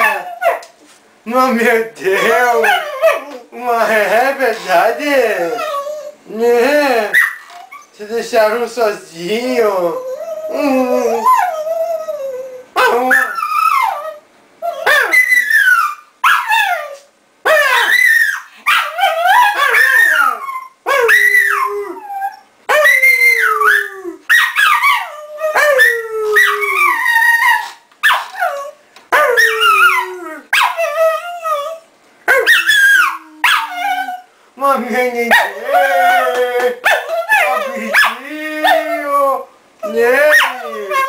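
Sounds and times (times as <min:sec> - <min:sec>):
dog howling and whining: 0:00.0 - 0:00.7, 0:02.2 - 0:03.6, 0:05.2 - 0:06.2, 0:09.9 - 0:34.3, 0:35.3 - 0:41.0.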